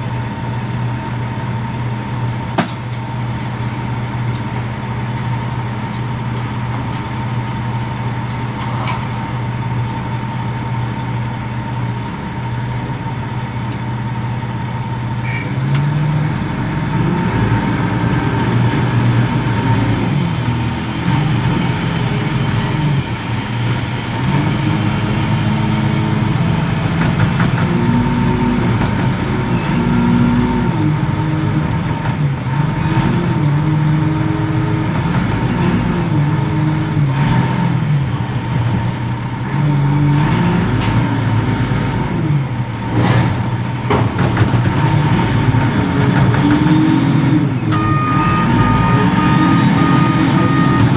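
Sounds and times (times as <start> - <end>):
diesel engine idling and revving: 0.0 - 50.9.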